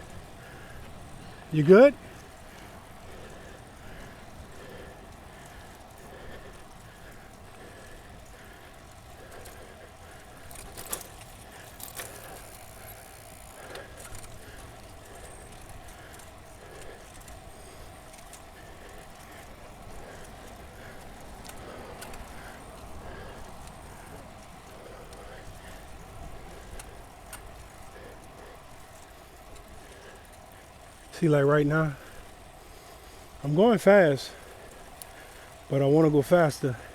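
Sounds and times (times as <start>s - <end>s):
bicycle riding rumble: 0.0s - 36.9s
faint regular ticking: 0.1s - 36.9s.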